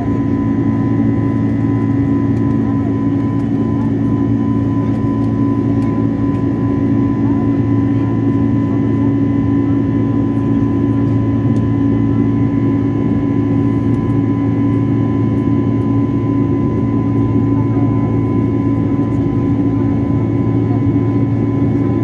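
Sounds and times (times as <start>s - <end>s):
jet engine cabin drone: 0.0s - 22.0s.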